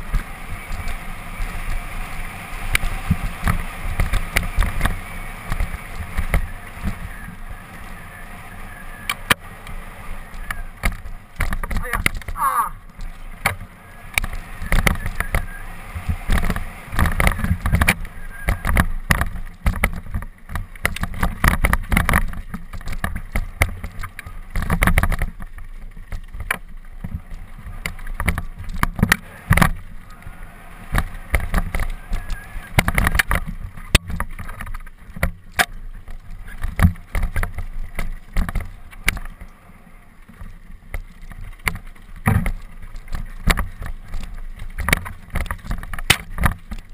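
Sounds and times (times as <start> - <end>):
bike rattling and knocking: 0.0 - 39.6, 40.2 - 46.9
bike tyres rumbling over stones: 0.0 - 46.9.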